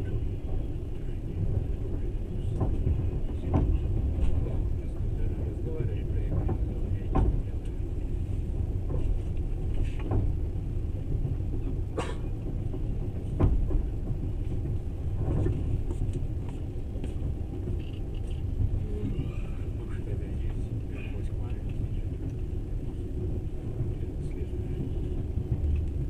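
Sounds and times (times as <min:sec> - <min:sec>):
train knocks and clacks: 0:00.0 - 0:26.0
train wheels on rails: 0:00.0 - 0:26.0.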